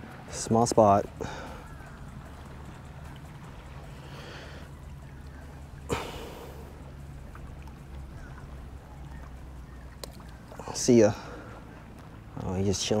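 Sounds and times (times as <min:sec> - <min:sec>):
water lapping at rocks: 0:00.0 - 0:13.0.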